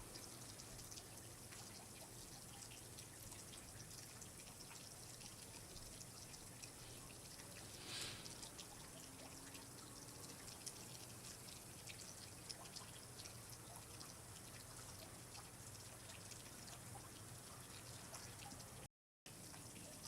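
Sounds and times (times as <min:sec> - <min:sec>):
water dripping and trickling: 0:00.0 - 0:20.0.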